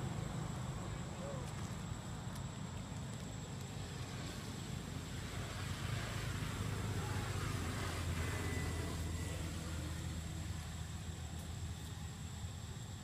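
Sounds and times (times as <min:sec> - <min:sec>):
distant engine rumble: 0:00.0 - 0:13.0.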